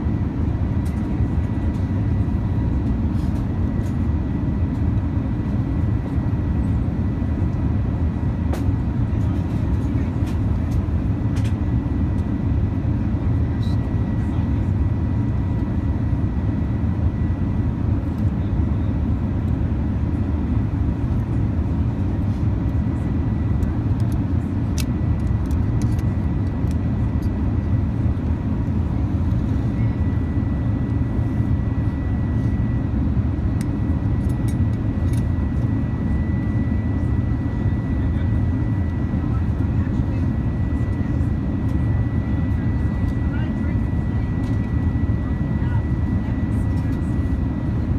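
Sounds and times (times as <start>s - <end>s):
airliner cabin drone: 0.0s - 47.9s.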